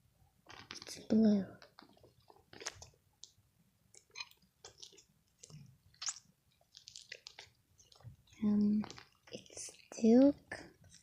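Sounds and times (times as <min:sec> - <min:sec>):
slime squelching by hand: 0:00.5 - 0:11.0.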